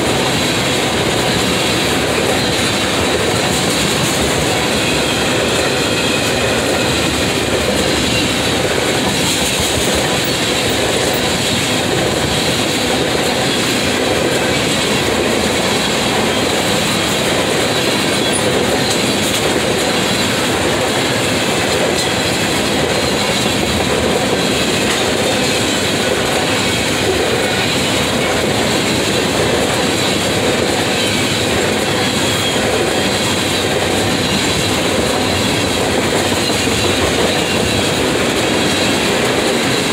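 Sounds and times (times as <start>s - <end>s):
train wheels rolling on rails: 0.0s - 39.9s.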